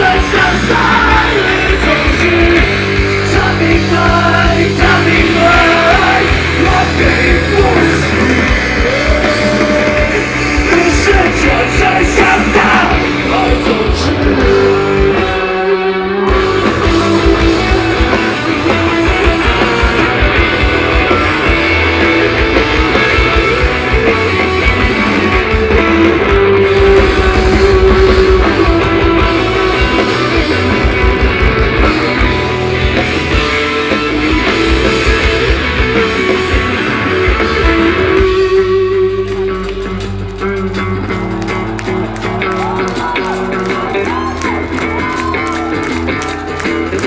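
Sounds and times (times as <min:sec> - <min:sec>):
bass guitar: 0:00.0 - 0:47.0
drums with rapid kick drum: 0:00.0 - 0:47.0
electric guitars: 0:00.0 - 0:47.0.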